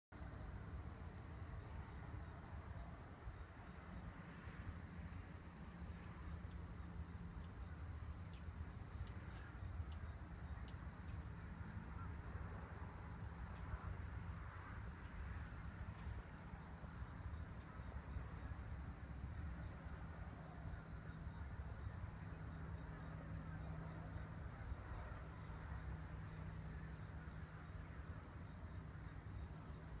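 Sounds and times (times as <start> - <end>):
insects trilling: 4.7 - 30.0.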